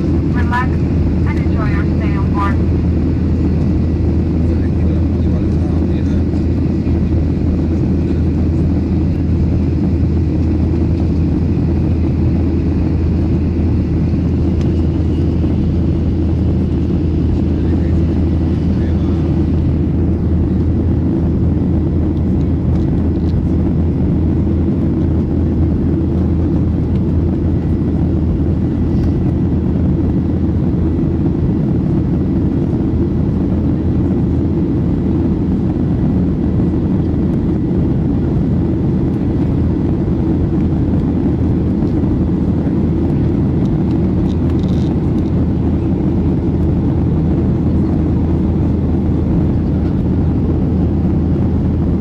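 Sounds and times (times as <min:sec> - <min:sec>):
jet airliner cabin noise: 0:00.0 - 0:52.0.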